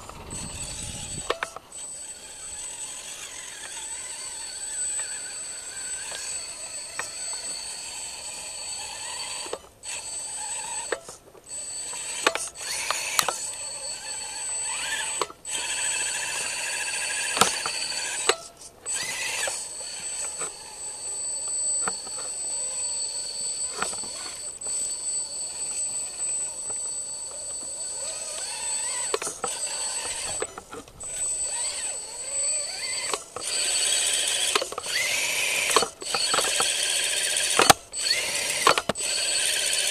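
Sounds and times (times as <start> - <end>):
electric motor whining: 0.0 - 39.9.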